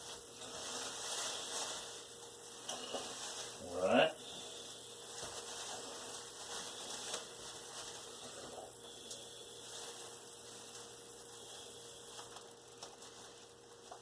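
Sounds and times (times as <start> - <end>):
faint electrical hum and hiss: 0.0 - 14.0.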